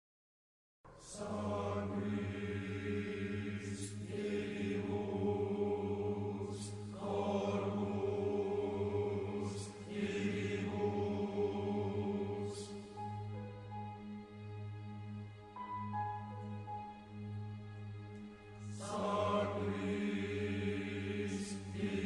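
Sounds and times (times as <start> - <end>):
chant-like choral music: 0.9 - 22.0.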